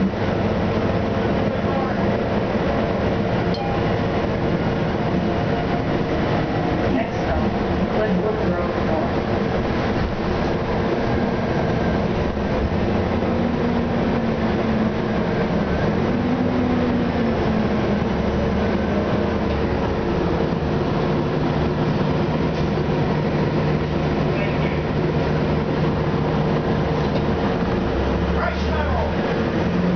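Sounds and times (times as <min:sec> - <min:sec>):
bus engine and driveline hum: 0:00.0 - 0:29.9
road noise: 0:00.0 - 0:29.9.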